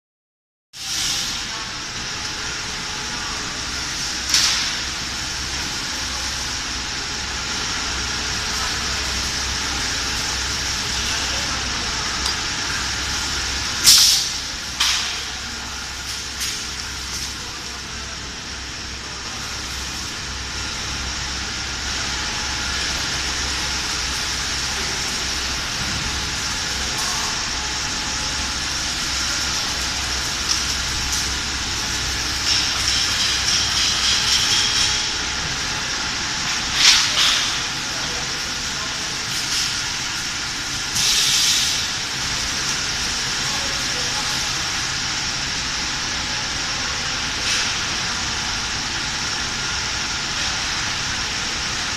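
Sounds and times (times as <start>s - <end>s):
welding machine humming: 0.8s - 51.9s.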